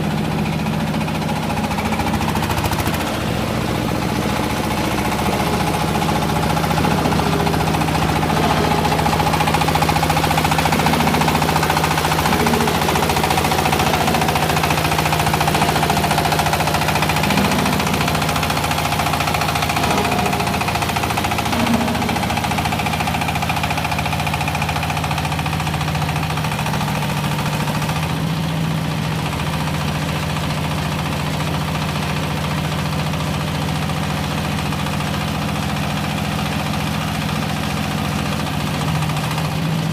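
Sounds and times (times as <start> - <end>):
hydraulic baler motor humming: 0.0 - 39.9.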